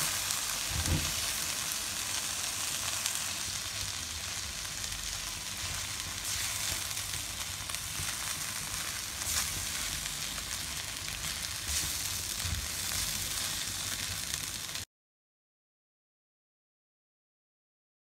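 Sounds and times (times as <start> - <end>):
food sizzling in a wok: 0.0 - 14.9.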